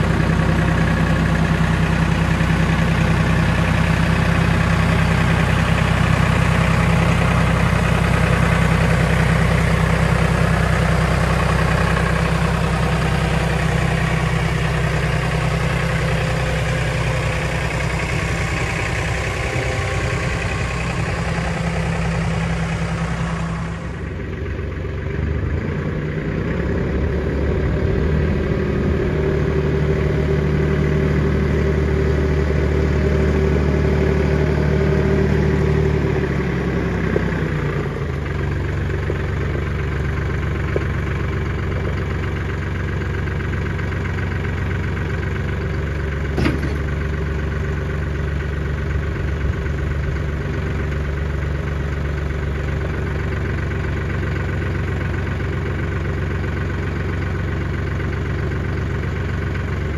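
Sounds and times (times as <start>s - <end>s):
tractor engine revving and idling: 0.0s - 59.9s.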